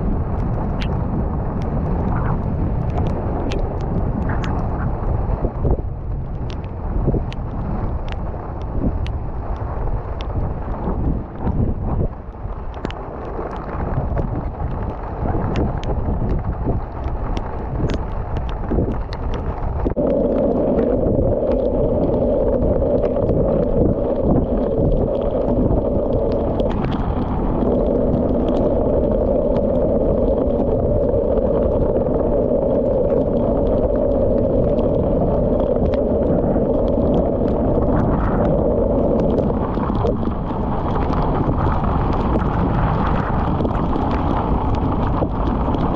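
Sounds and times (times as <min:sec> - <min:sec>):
water droplets ticking on camera: 0:00.0 - 0:45.9
wind rushing over microphone: 0:00.0 - 0:45.9.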